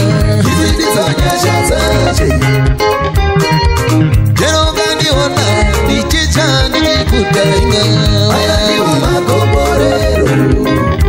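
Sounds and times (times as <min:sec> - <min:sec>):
upbeat dance music: 0:00.0 - 0:11.0.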